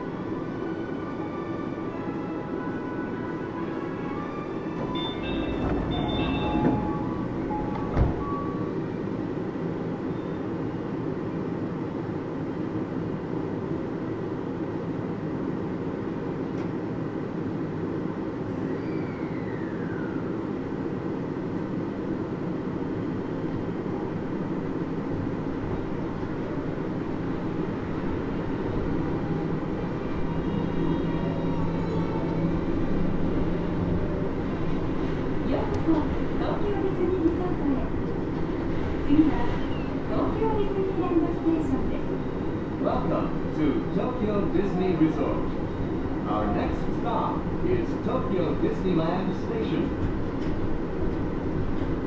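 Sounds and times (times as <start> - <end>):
monorail car rumbling: 0.0 - 52.0.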